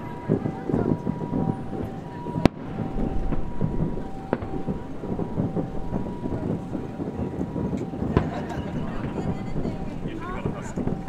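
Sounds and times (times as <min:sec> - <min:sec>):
distant fireworks cracks: 0:00.0 - 0:11.0
low rumble of booms: 0:00.0 - 0:11.0.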